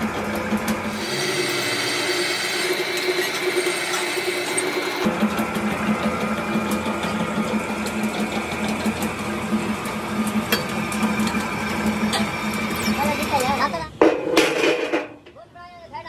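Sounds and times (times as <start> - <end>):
drill press humming: 0.0 - 13.8.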